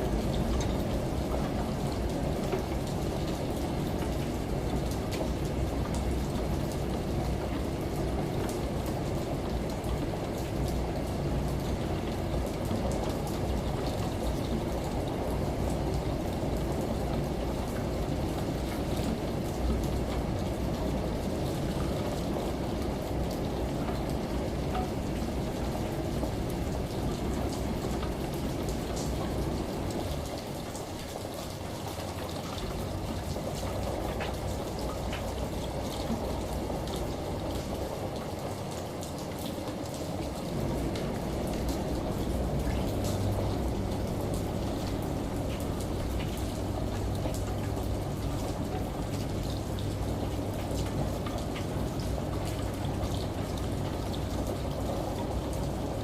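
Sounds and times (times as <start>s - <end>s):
steady rain: 0.0s - 56.0s
washing machine rumble: 0.0s - 56.0s.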